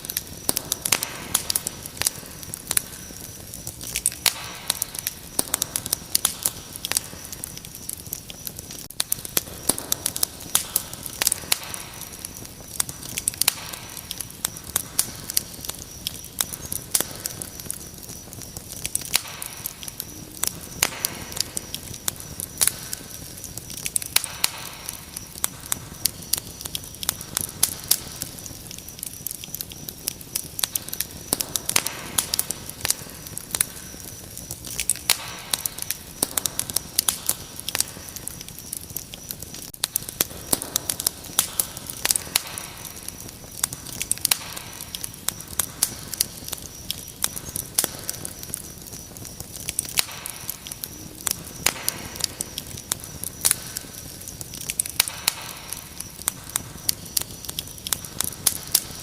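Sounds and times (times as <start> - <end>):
cricket trill: 0.0 - 59.0
wood fire crackling: 0.0 - 59.0.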